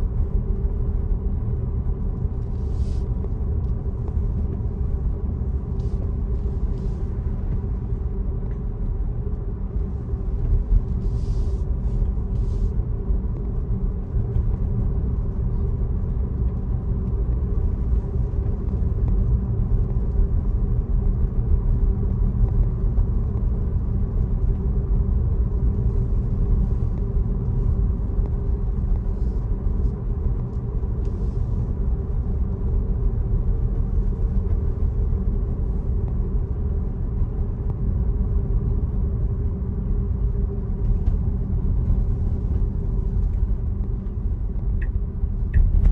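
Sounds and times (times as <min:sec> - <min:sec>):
car tyre and road noise: 0:00.0 - 0:45.9.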